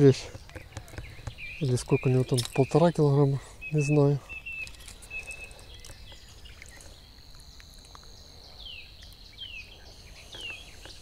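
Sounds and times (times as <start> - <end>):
bird calling: 0.0 - 11.0
insects trilling: 0.0 - 11.0.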